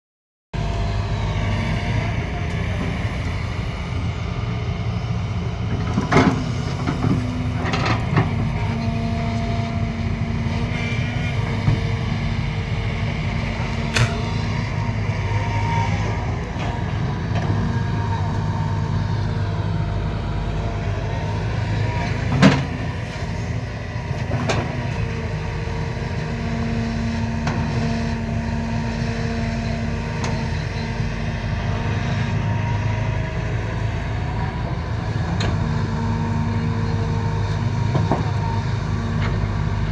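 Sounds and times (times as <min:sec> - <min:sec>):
excavator engine running: 0:00.6 - 0:39.9.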